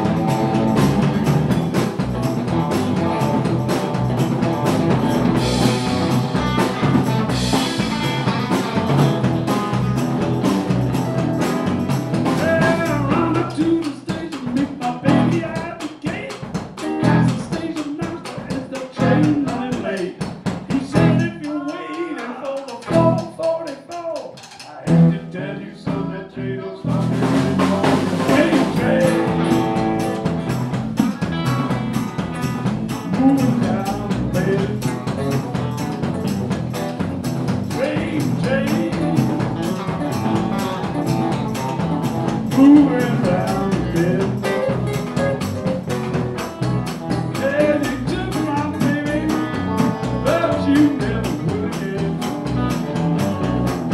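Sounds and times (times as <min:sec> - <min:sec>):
electric guitar: 0:00.0 - 0:21.4, 0:22.8 - 0:23.3, 0:24.7 - 0:53.9
live blues band playing: 0:00.0 - 0:23.6, 0:24.3 - 0:53.9
driving drumbeat: 0:00.0 - 0:26.2, 0:26.9 - 0:53.9.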